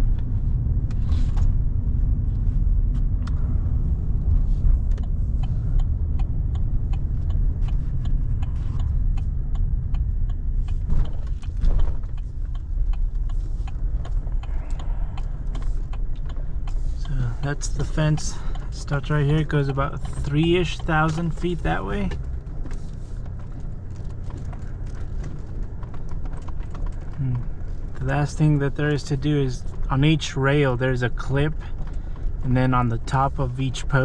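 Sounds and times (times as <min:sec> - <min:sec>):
truck engine rumble: 0:00.0 - 0:34.0
small clicks and rattles: 0:04.8 - 0:34.0.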